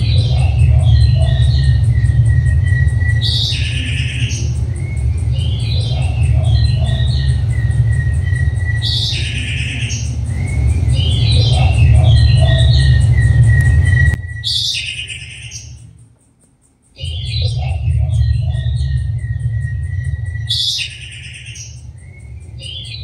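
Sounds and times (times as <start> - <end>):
bird chirps and whistle: 0.0 - 15.9, 17.0 - 23.0
steady low hum: 0.0 - 23.0.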